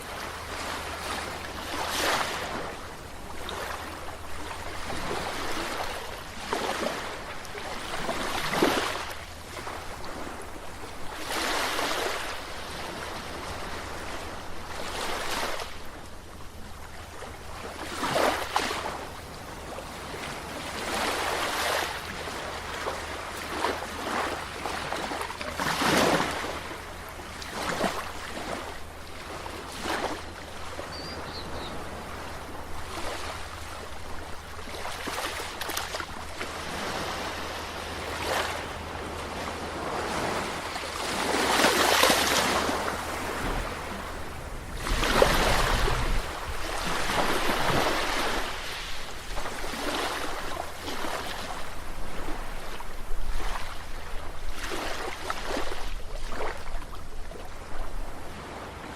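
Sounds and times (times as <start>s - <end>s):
sea waves splashing on shore: 0.0s - 58.9s.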